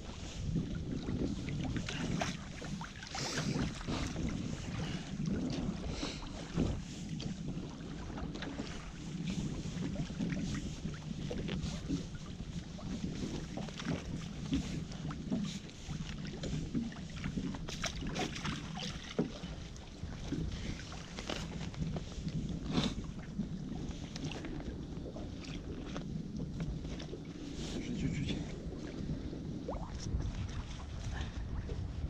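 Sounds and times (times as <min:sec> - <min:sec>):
wind noise on microphone: 0:00.0 - 0:32.0.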